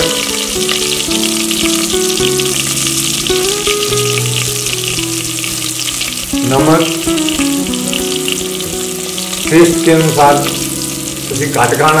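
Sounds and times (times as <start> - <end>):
background music of held notes: 0.0 - 12.0
ghee sizzling: 0.0 - 12.0.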